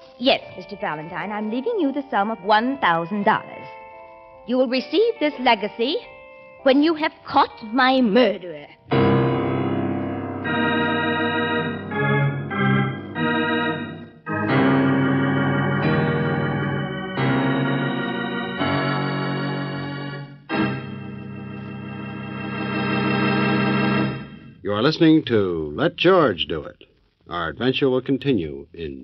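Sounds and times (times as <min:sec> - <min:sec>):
organ sustained chords: 0:00.0 - 0:24.9.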